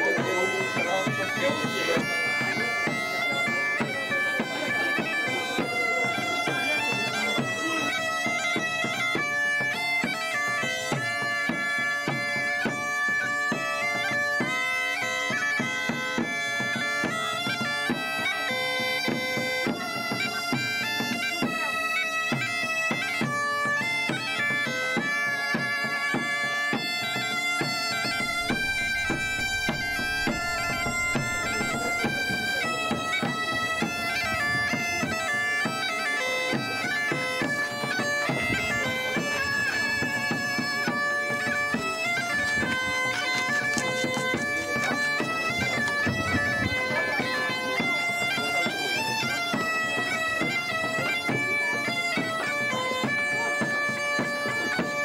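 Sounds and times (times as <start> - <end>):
bagpipe melody over drone: 0.0 - 55.0.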